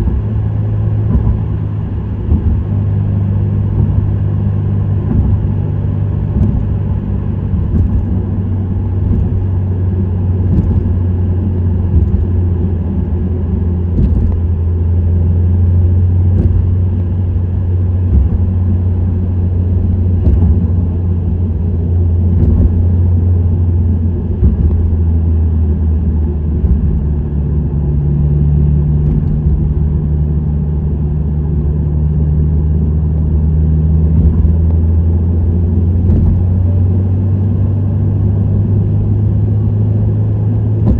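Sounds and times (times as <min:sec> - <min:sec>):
low exhaust drone: 0:00.0 - 0:40.9
road rumble: 0:00.0 - 0:40.9.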